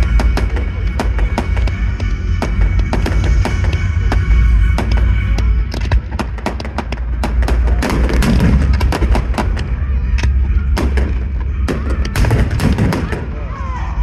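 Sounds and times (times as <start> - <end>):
fireworks bangs and crackles: 0.0 - 13.5
low rumble: 0.0 - 14.0.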